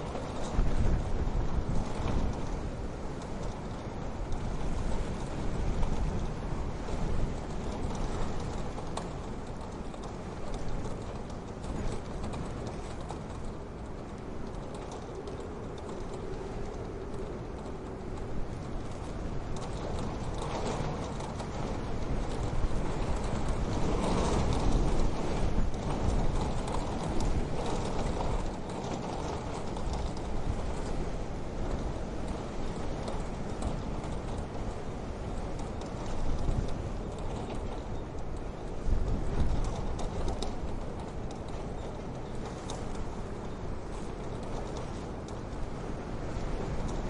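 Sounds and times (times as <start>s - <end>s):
low rumble and hiss of fire: 0.0s - 47.0s.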